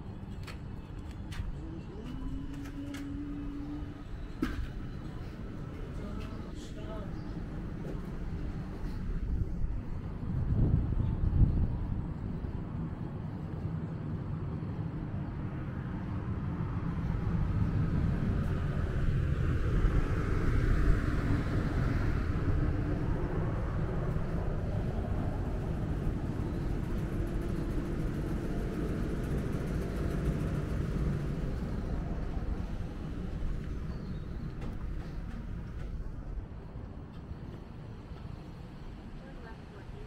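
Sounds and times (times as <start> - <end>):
low rumble of city traffic: 0.0 - 40.0.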